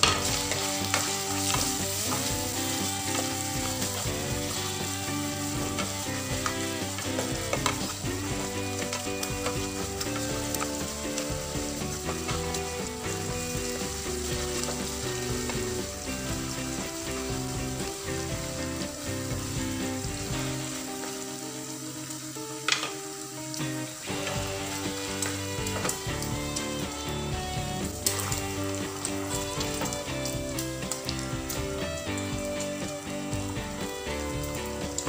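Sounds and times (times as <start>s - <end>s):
spatula stirring in frying pan: 0.0s - 21.4s, 23.9s - 35.0s
food sizzling in hot oil: 0.0s - 35.0s.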